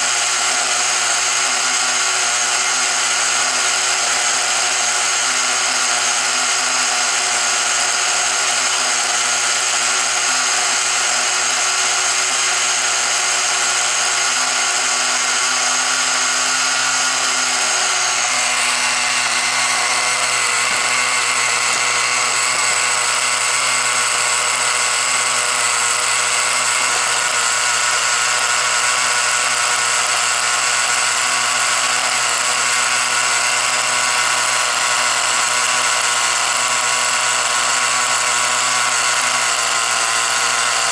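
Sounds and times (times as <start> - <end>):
small model engine buzzing whine: 0.0 - 40.9.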